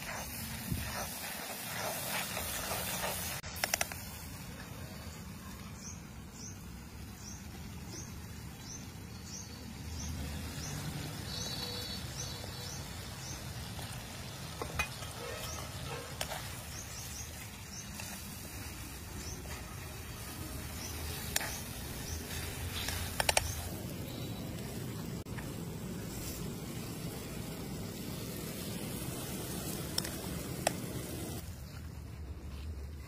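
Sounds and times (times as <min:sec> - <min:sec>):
sauce sizzling and bubbling: 0:00.0 - 0:05.4, 0:06.7 - 0:33.0.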